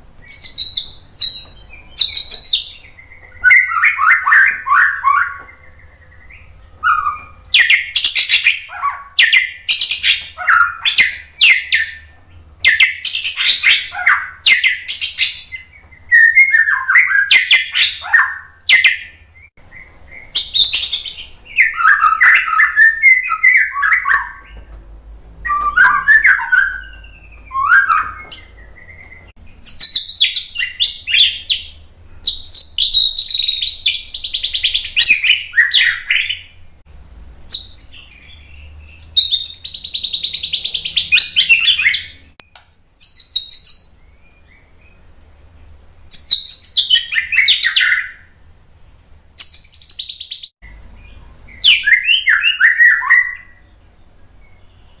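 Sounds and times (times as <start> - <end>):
bird singing: 0.0 - 24.8, 25.4 - 36.7, 37.5 - 55.0.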